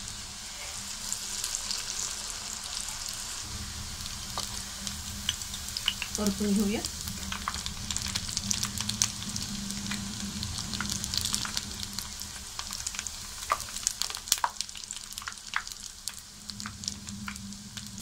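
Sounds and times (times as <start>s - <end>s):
dough sizzling in hot oil: 0.0s - 18.0s.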